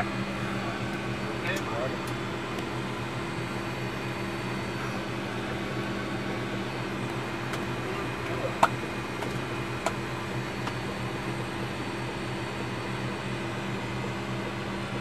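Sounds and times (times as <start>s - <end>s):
fans and electrical equipment hum: 0.0s - 15.0s.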